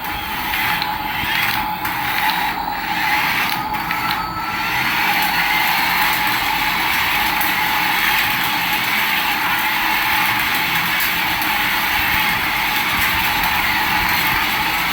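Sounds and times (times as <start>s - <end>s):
toy motor and gears whirring: 0.0s - 14.9s.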